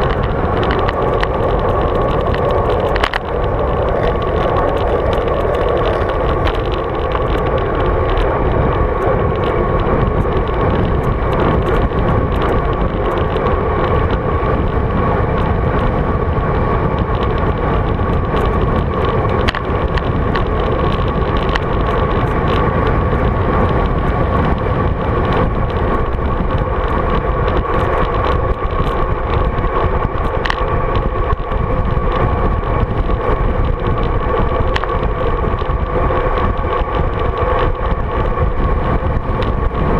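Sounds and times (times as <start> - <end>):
bike tyres rumbling on asphalt: 0.0 - 39.9
wind rushing over microphone: 0.0 - 39.9.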